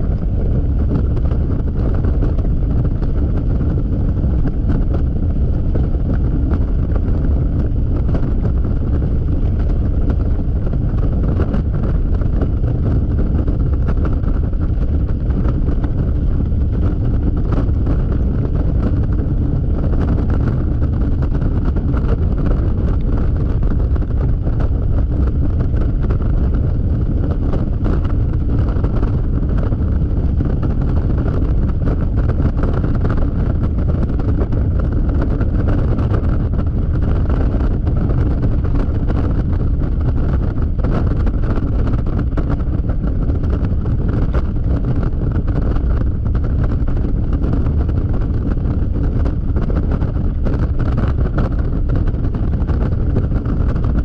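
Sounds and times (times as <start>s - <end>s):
road noise: 0.0s - 54.0s
wind rush on microphone: 0.0s - 54.0s.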